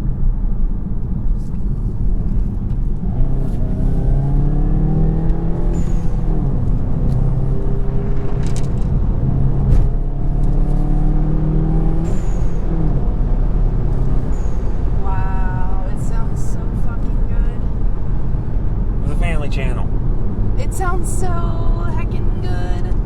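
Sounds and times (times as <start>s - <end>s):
car engine revving under load: 0.8s - 23.0s.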